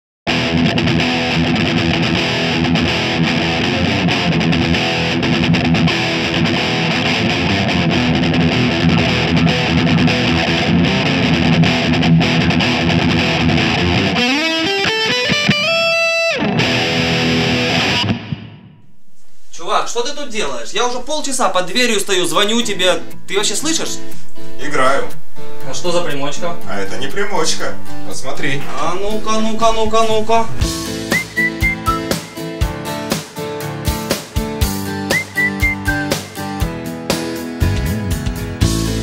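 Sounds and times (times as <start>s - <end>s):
distorted electric guitar: 0.3s - 19.5s, 20.3s - 39.0s.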